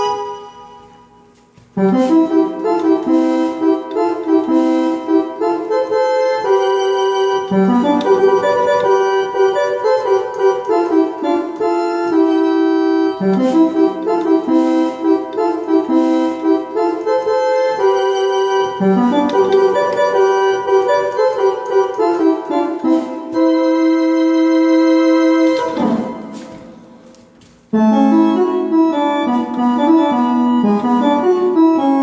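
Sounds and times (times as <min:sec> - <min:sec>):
organ-like keyboard melody: 0:00.0 - 0:32.0.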